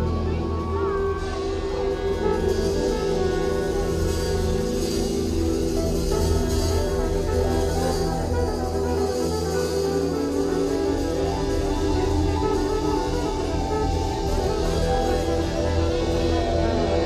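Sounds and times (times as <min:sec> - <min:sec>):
drums: 0:00.0 - 0:17.0
electric guitar: 0:00.0 - 0:17.0
heavy bass: 0:00.0 - 0:17.0
live reggae band: 0:00.0 - 0:17.0.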